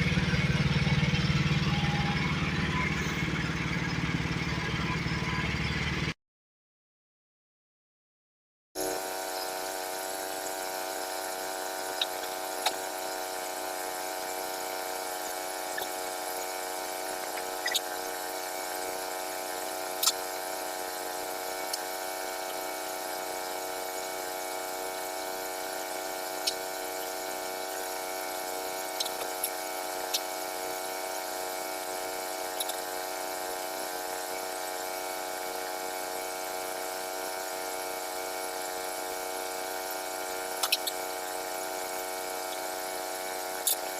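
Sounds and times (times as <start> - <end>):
small gasoline engine running: 0.0 - 6.2, 8.8 - 43.9.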